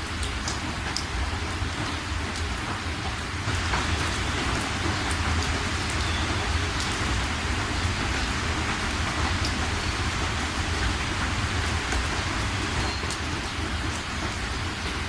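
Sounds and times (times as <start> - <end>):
raindrops ticking: 0.0 - 15.0
steady rain hissing: 0.0 - 15.0.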